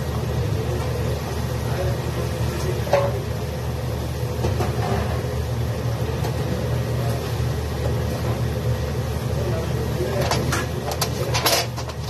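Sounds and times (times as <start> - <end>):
low kitchen machine rumble: 0.0 - 12.0.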